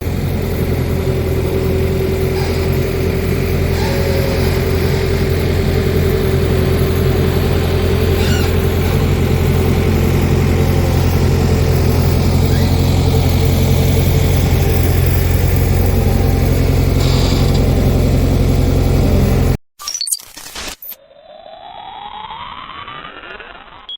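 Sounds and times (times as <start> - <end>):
heavy machine engine running: 0.0 - 19.6.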